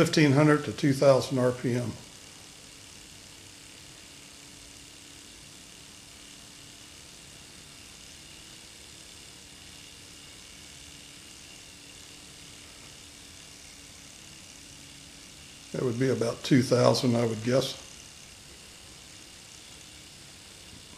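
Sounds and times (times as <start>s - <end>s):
steam hissing with faint tone: 0.0s - 20.9s.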